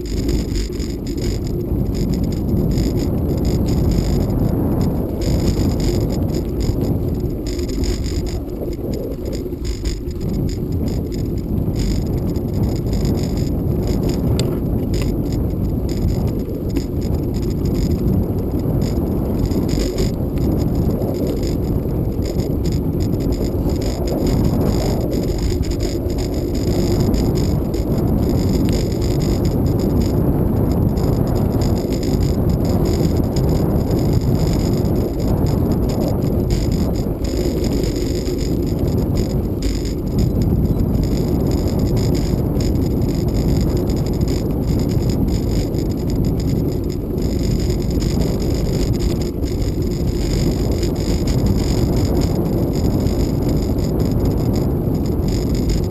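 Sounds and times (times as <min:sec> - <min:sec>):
bicycle rattling over bumps: 0:00.0 - 0:55.9
wind on camera microphone: 0:00.0 - 0:55.9.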